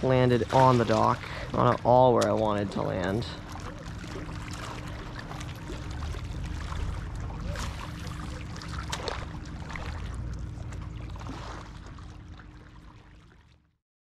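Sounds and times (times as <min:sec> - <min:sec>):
faint steady hum: 0:00.0 - 0:13.8
low steady rumble: 0:00.0 - 0:13.8
water sounds: 0:00.0 - 0:13.8.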